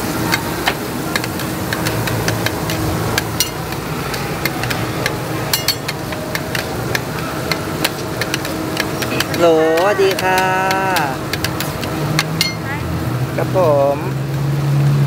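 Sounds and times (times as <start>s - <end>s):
steady background hum: 0.0s - 14.4s.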